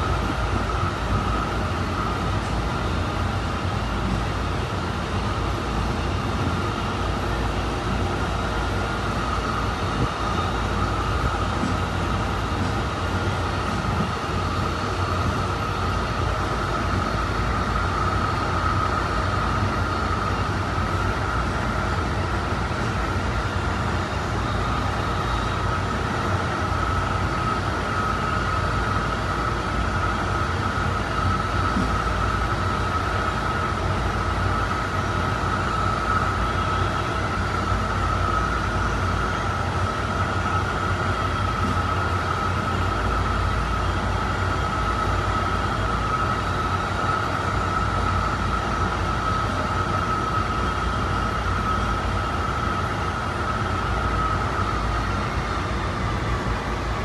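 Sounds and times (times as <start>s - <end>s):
steady train whine: 0.0s - 57.0s
train wheels rumbling on track: 0.0s - 57.0s.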